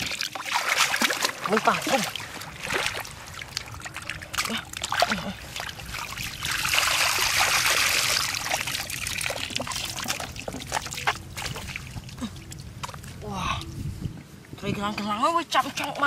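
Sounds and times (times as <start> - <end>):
water pouring: 0.0 - 13.0
muddy water splashing: 0.0 - 16.0.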